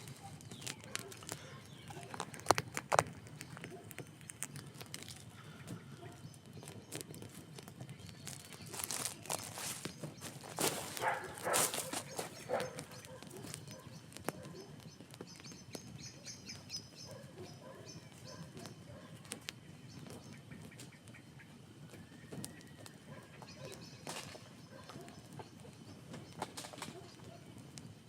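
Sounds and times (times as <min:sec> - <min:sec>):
campfire crackling and popping: 0:00.0 - 0:28.0
small birds chirping: 0:00.0 - 0:28.0.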